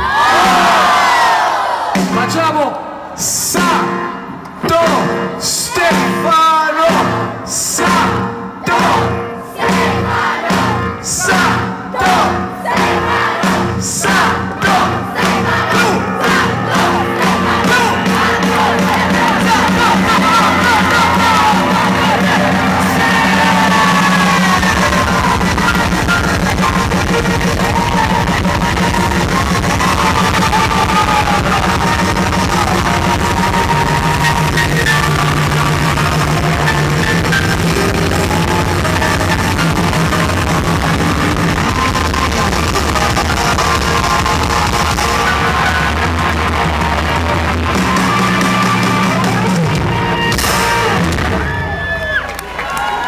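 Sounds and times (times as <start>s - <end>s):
crowd yelling: 0.0s - 53.0s
live rock band playing: 3.3s - 52.6s.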